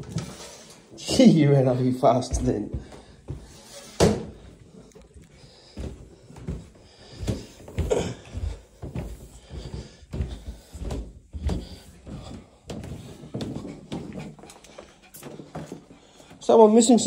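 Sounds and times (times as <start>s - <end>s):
footsteps on carpeted stairs: 0.0s - 16.6s.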